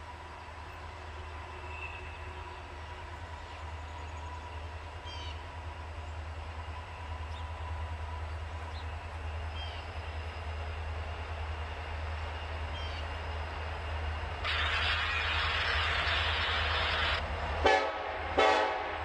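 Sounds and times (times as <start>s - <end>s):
distant diesel train rumble: 0.0s - 19.0s.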